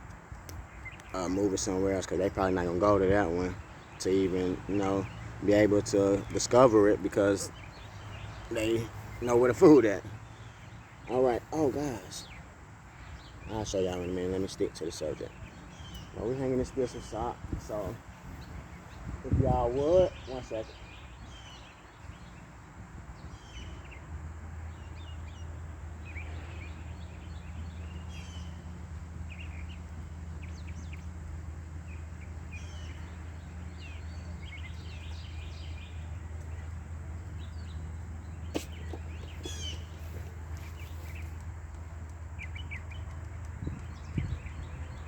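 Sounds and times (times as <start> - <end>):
steady low hum: 0.0 - 45.0
wild birds chirping: 0.0 - 45.0.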